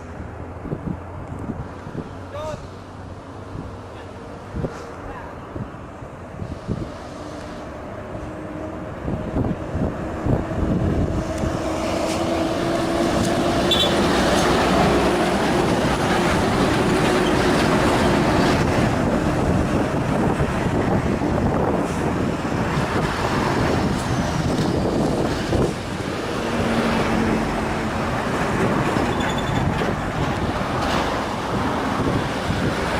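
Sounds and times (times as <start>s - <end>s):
road noise rumble: 0.0s - 32.9s.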